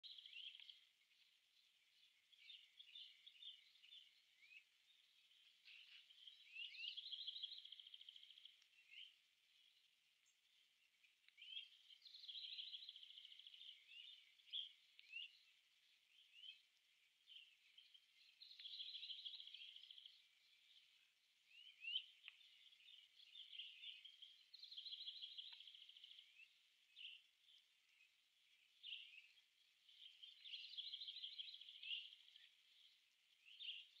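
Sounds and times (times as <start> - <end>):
faint songbird song with trill: 0.0 - 34.0.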